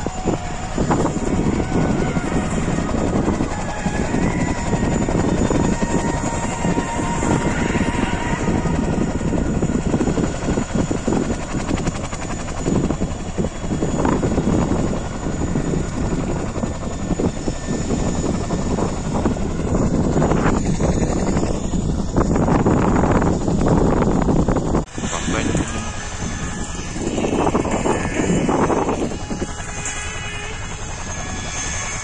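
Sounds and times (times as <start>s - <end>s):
faint whine: 0.0s - 32.0s
helicopter rotor and engine: 0.0s - 32.0s.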